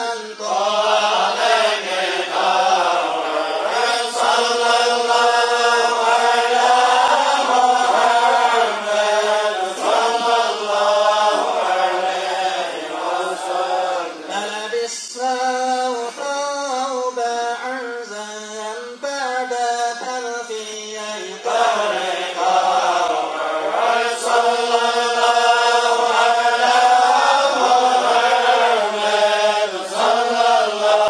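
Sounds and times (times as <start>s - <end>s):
men chanting a hymn in unison: 0.0s - 17.8s, 20.2s - 31.0s.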